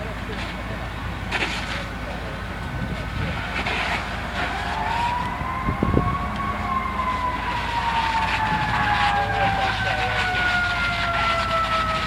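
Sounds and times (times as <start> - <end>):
steady background noise: 0.0 - 12.0
emergency siren wailing: 0.1 - 12.0.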